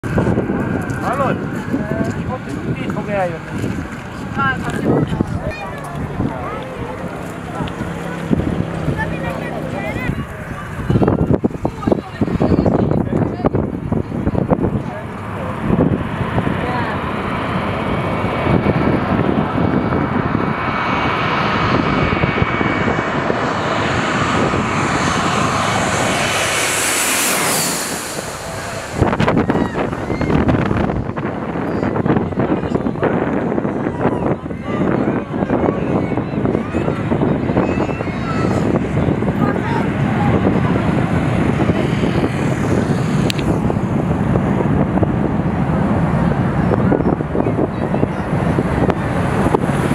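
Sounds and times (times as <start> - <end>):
jet engines roaring and whining: 0.0 - 49.9.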